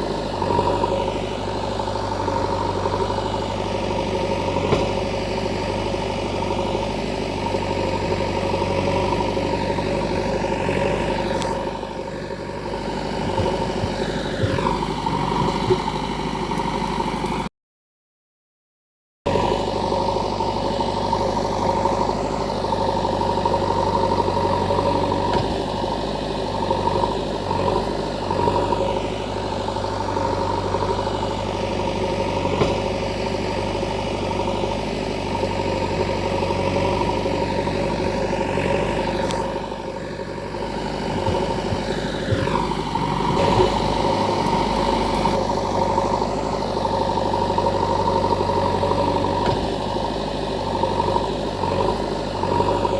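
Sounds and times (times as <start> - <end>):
engine running with even hum: 0.0 - 17.5, 19.3 - 52.9.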